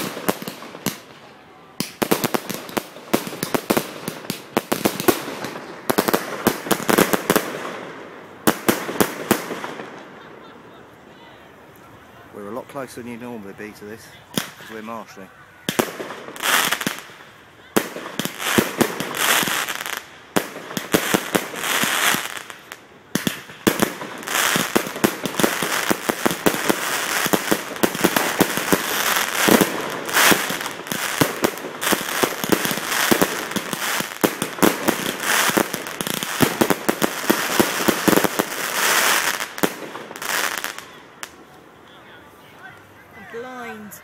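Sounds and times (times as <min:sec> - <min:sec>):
fireworks crackling and popping: 0:00.0 - 0:44.0.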